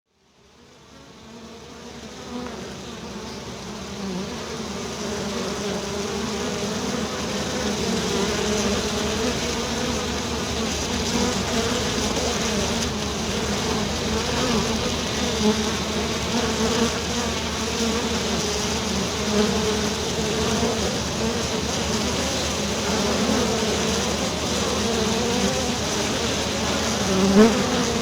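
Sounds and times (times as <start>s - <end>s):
bees buzzing: 0.8s - 28.0s.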